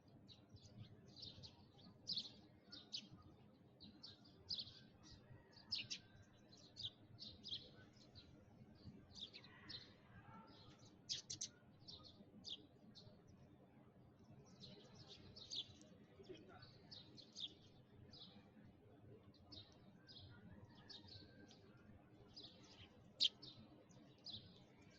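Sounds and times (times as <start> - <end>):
sparrows chirping: 0.0 - 13.5, 14.2 - 18.6, 19.2 - 24.9.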